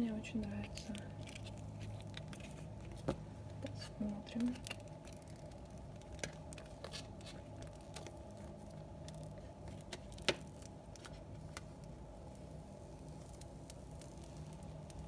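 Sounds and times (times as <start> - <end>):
soft clicks and crinkles of handling: 0.3 - 15.0.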